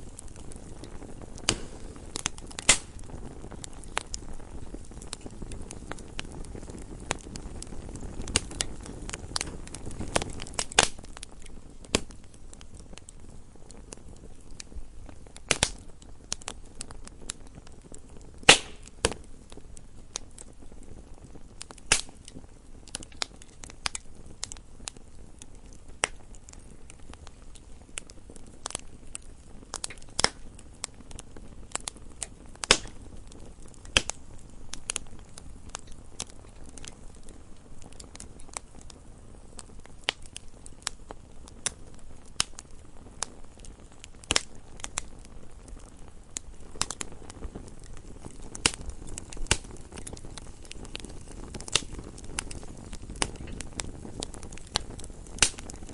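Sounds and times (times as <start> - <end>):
logs crackling and popping: 0.0 - 55.9
wood fire burning: 0.0 - 55.9.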